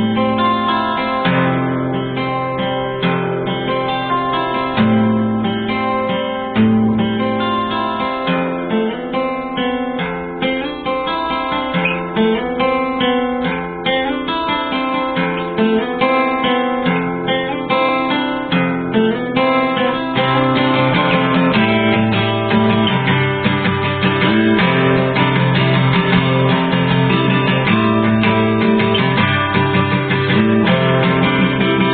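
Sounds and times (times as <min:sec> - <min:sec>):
acoustic guitar strummed and picked: 0:00.0 - 0:31.9.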